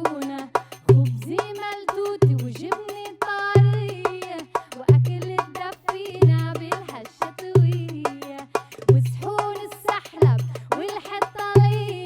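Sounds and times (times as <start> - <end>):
clicking hand drum percussion: 0.0 - 12.0.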